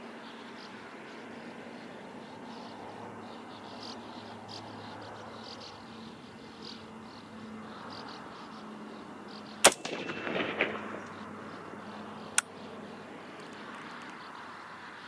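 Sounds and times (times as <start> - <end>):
insects chirping: 0.0 - 15.0
steady low hum: 0.0 - 15.0.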